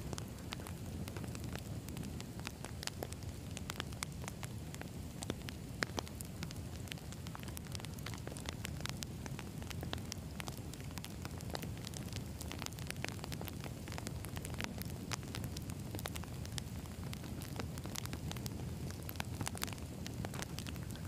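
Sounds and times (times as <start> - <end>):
campfire flames rumbling: 0.0 - 21.0
crackles and pops of burning logs: 0.0 - 21.0.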